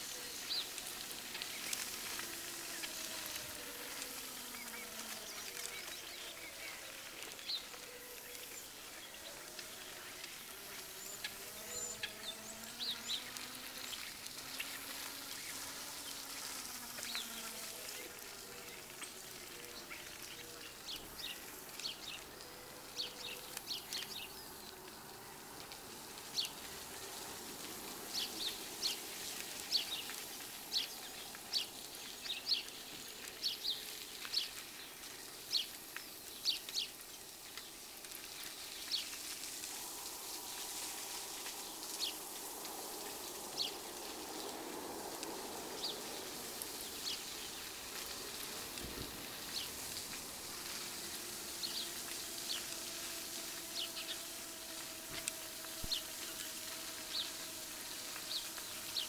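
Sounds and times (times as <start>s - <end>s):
birds chirping: 0.0s - 27.3s, 27.9s - 57.5s
steady hiss: 0.0s - 59.0s.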